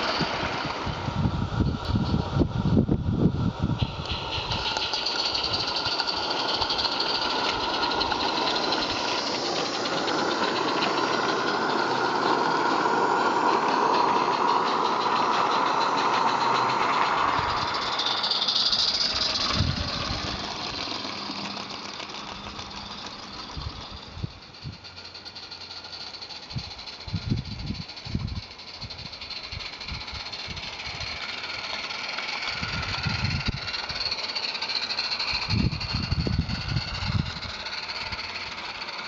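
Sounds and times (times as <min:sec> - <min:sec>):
steam locomotive chuffing: 0:00.0 - 0:39.0
wheels rattling on track: 0:00.0 - 0:39.0.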